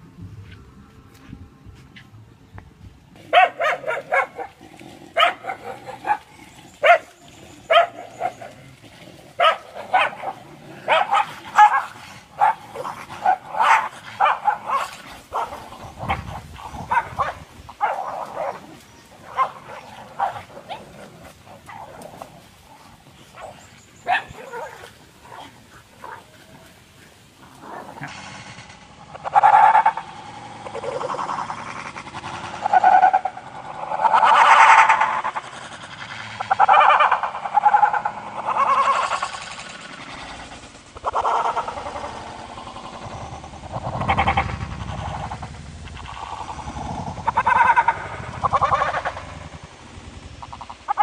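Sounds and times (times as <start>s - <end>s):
dogs fighting and barking: 3.1s - 51.0s.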